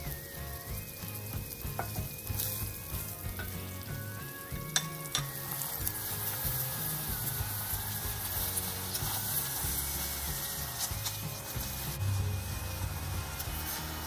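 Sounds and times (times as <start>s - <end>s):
onions frying in oil: 0.0s - 14.0s.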